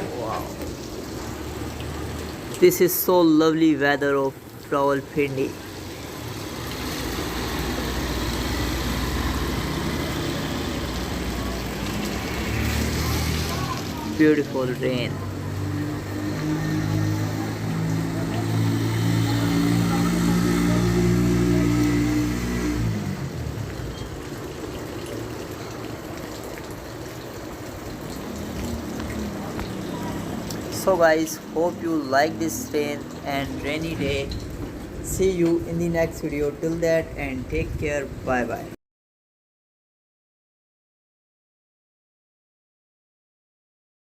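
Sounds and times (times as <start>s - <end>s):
vehicle traffic: 0.0s - 38.7s
rain on street: 0.0s - 38.8s.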